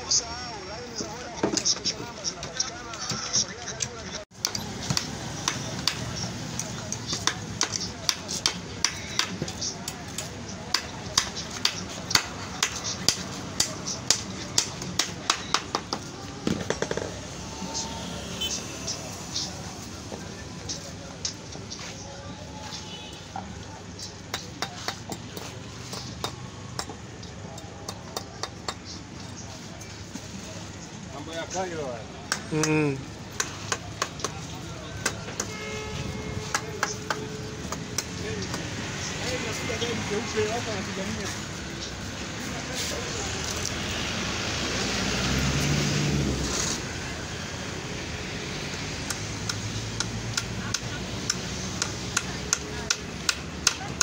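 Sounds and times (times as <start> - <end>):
street traffic noise: 0.0 - 54.0.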